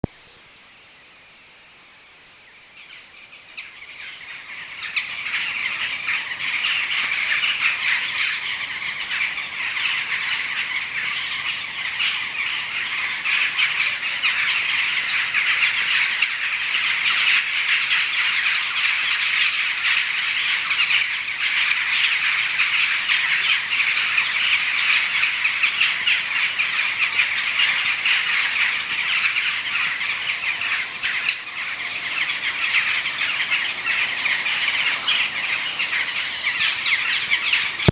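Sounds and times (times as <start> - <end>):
flock of birds calling: 2.5 - 37.9.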